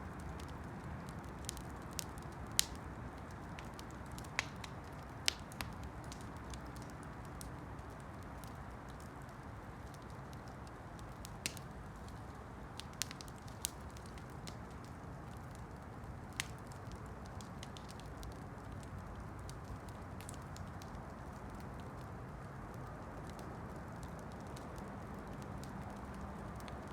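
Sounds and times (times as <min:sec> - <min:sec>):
wood crackling and popping: 0:00.0 - 0:26.9.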